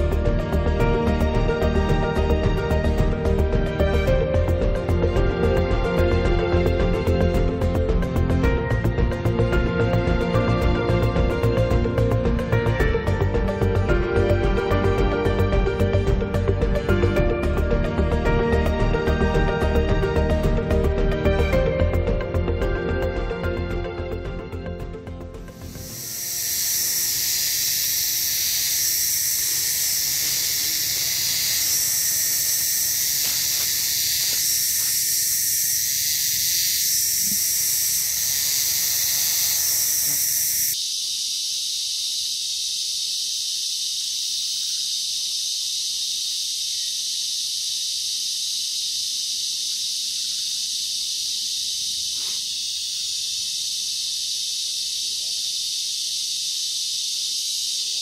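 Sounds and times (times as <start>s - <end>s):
insect chorus buzzing: 0.0s - 58.0s.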